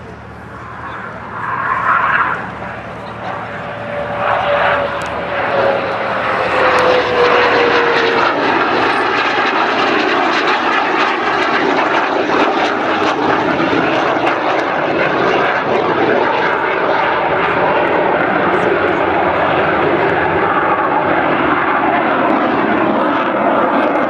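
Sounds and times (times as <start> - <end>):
jet engine roar with whine: 0.0 - 24.0.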